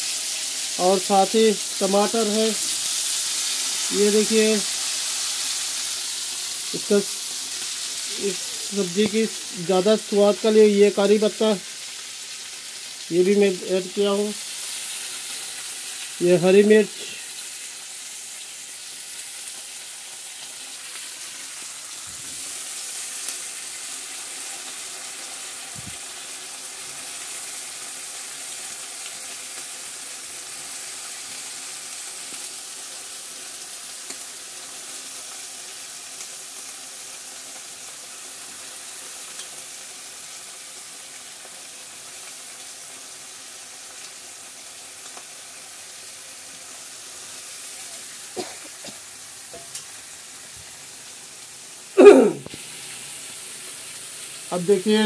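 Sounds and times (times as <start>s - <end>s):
vegetables sizzling in hot oil: 0.0s - 55.0s.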